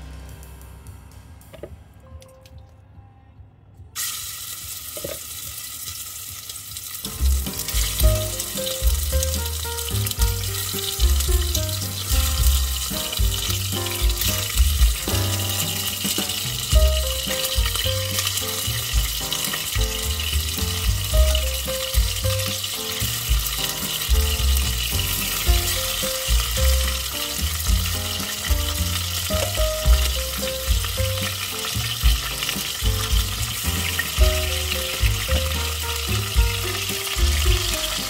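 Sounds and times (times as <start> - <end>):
background music with bass beat: 0.0 - 2.6, 7.1 - 38.0
chicken sizzling in oil: 4.0 - 38.0.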